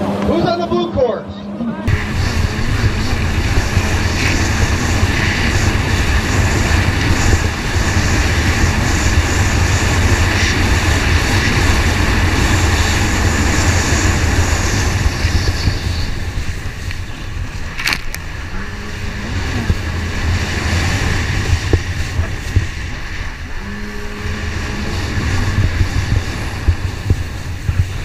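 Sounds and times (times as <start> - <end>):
jet ski engine at speed: 0.0 - 28.0
wind: 0.0 - 28.0.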